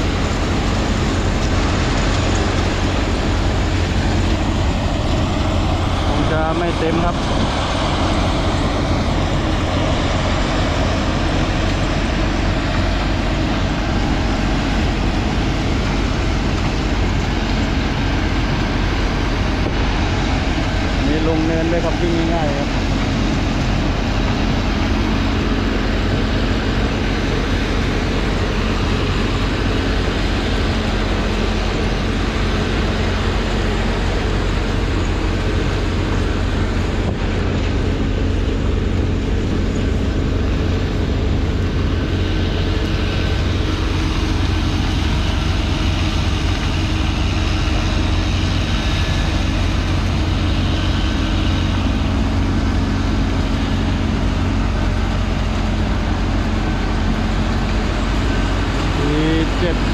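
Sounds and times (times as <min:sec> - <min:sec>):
harvester diesel engine: 0:00.0 - 0:59.9
tractor diesel engine: 0:00.0 - 0:59.9.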